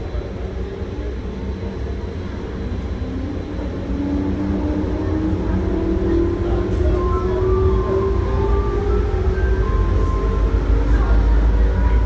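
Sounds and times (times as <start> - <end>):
train low rumble: 0.0 - 12.0
train motor whine: 0.0 - 12.0.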